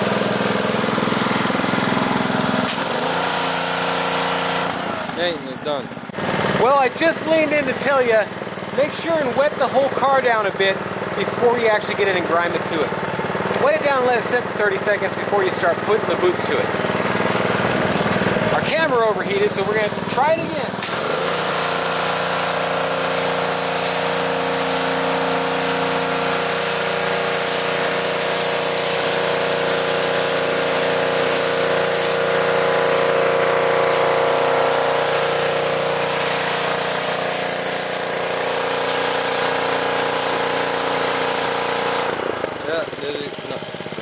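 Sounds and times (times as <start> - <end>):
high-pressure water jet hissing: 0.0 - 44.0
pressure washer engine drone: 0.0 - 44.0.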